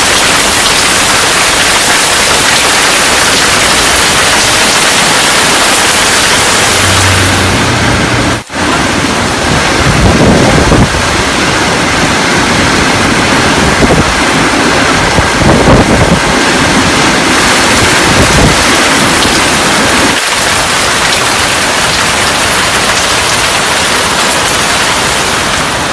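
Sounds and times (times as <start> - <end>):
heavy rain pouring: 0.0 - 25.9
wind gusting on microphone: 2.4 - 25.9.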